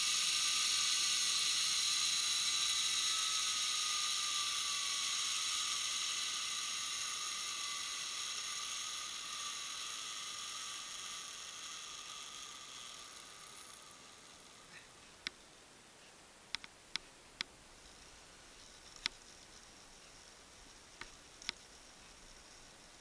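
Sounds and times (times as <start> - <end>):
zipline pulleys whirring on cable: 0.0 - 15.3, 17.8 - 23.0.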